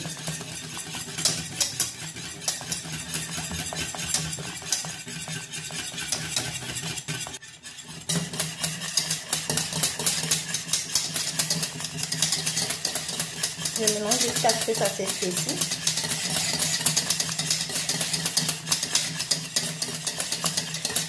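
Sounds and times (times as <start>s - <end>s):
whisk scraping a saucepan: 0.0s - 21.0s.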